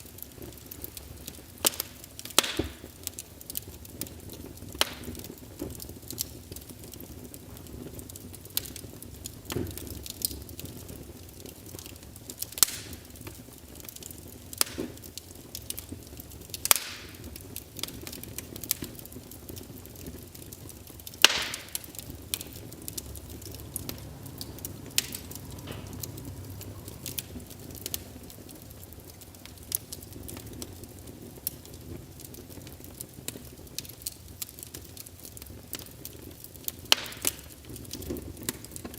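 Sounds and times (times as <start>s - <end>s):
low flame noise: 0.0s - 38.9s
wood fire crackling: 0.0s - 38.9s.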